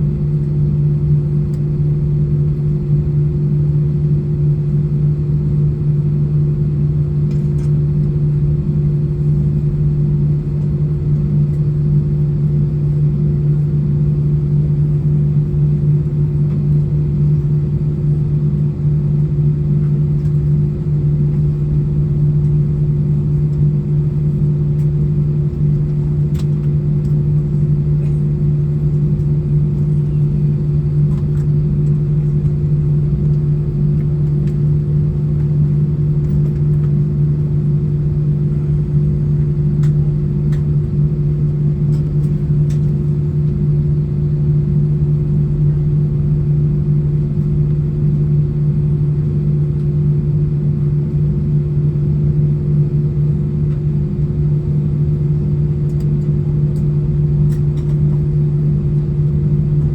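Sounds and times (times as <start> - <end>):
aircraft cabin drone: 0.0 - 59.9.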